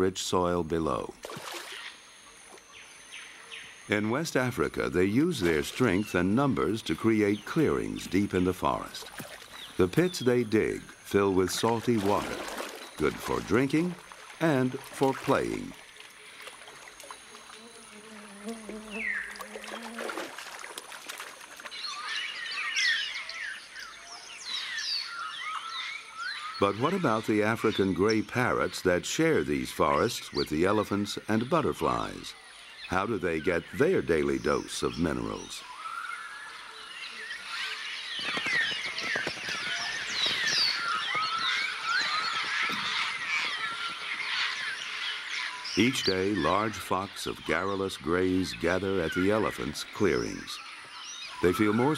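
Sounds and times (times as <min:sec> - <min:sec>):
birds chirping chorus: 0:00.0 - 0:51.9.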